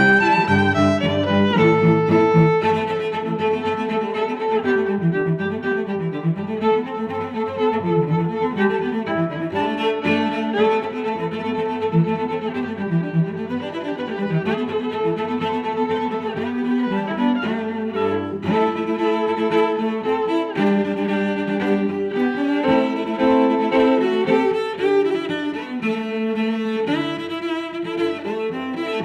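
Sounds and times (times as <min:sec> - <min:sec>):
bowed strings playing: 0:00.0 - 0:29.0.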